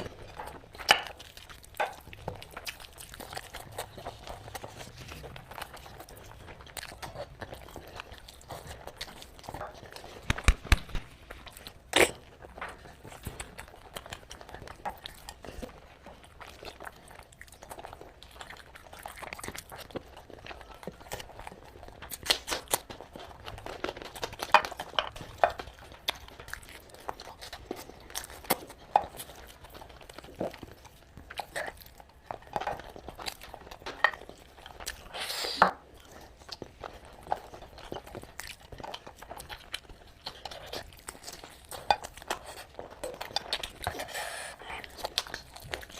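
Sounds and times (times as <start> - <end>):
person chewing: 0.0 - 45.9.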